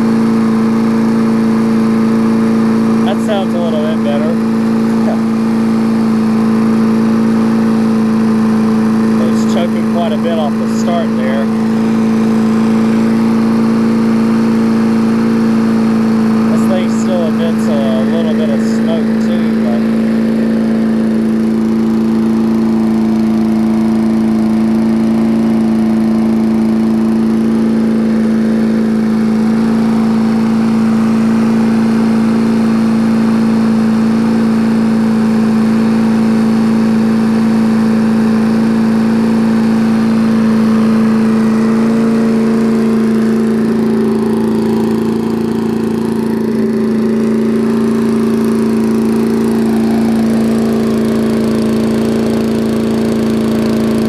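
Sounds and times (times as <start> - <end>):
push mower engine running: 0.0 - 54.0.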